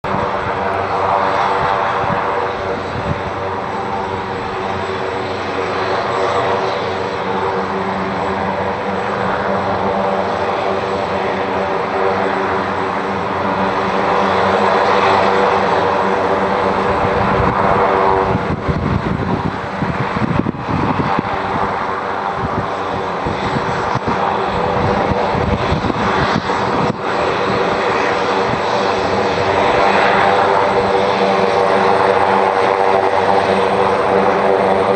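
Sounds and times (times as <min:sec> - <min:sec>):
helicopter turbine whine: 0:00.0 - 0:34.9
low gusty rumble: 0:00.0 - 0:34.9.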